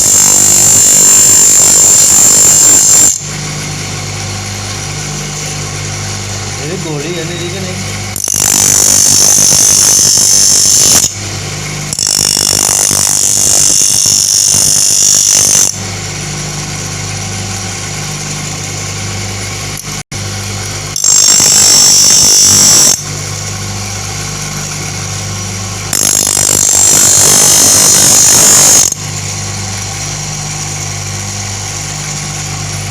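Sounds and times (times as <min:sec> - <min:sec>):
grinder motor humming: 0:00.0 - 0:32.9.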